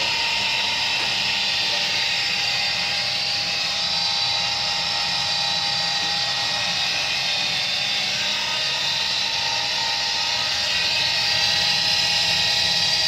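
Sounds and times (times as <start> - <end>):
boiler fan running: 0.0 - 13.0.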